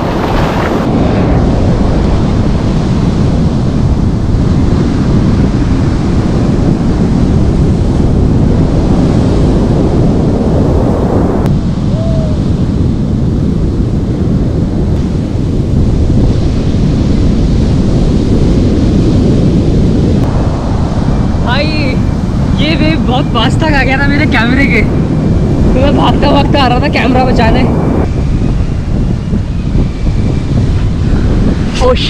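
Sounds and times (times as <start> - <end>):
sea surf breaking: 0.0 - 32.0
wind rumbling on microphone: 0.0 - 32.0.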